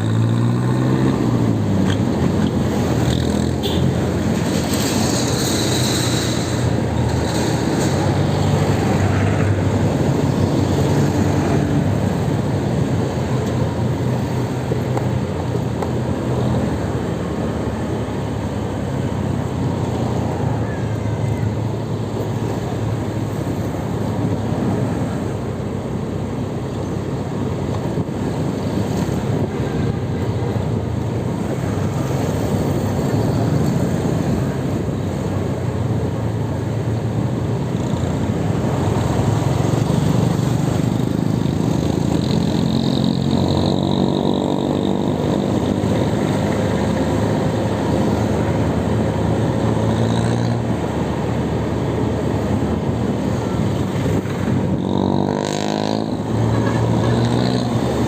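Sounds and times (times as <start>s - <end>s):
tyre and traffic noise: 0.0s - 58.0s.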